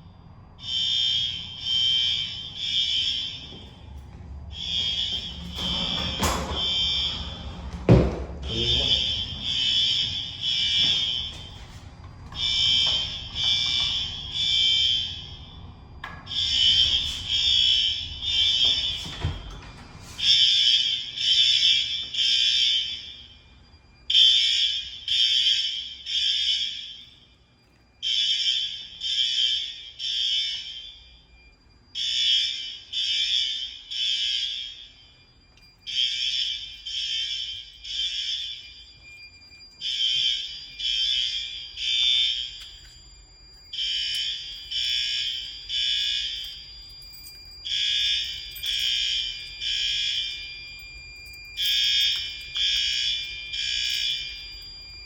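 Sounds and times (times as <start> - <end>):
fire alarm horns: 0.0 - 55.0.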